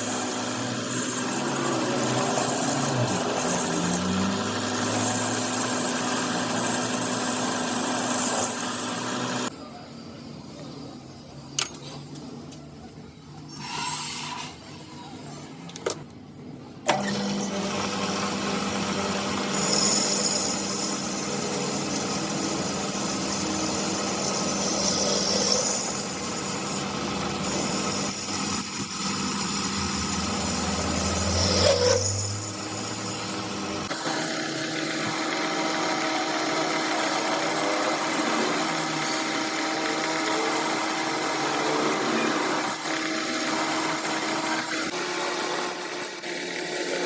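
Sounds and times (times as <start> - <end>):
electric motor humming: 0.0 - 9.5, 17.2 - 47.0.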